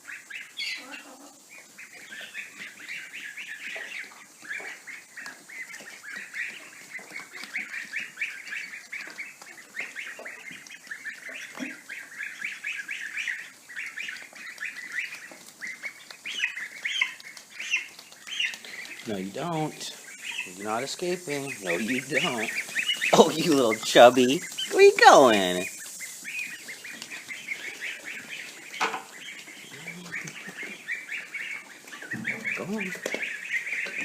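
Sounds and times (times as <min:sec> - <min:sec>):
ducklings peeping: 0:00.0 - 0:34.0.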